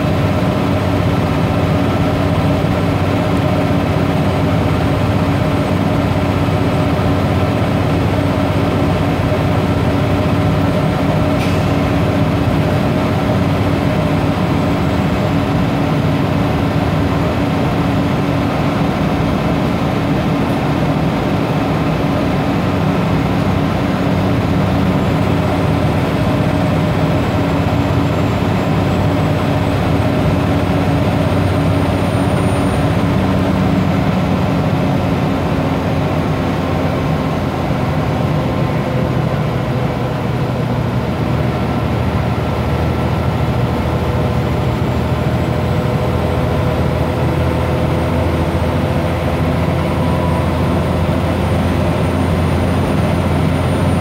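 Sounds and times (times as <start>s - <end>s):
bus engine drone: 0.0s - 54.0s
road noise: 0.0s - 54.0s.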